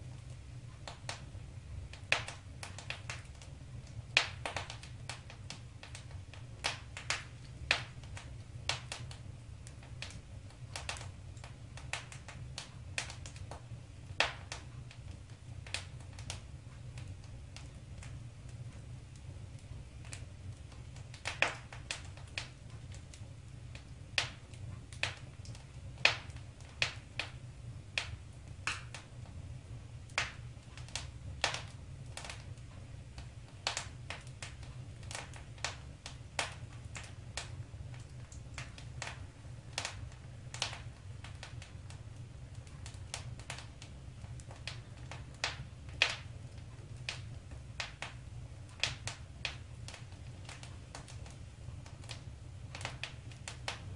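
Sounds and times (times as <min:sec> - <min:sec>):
low rumble of burning fire: 0:00.0 - 0:53.9
wood fire crackling and popping: 0:00.0 - 0:53.9.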